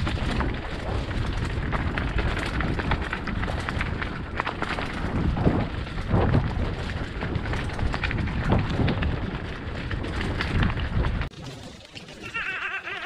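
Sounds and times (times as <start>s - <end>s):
bike clicks and knocks: 0.0s - 11.3s
wind buffeting microphone: 0.0s - 11.3s
tyres over dirt and rock: 0.0s - 12.3s
mountain bike rattling: 0.0s - 13.0s.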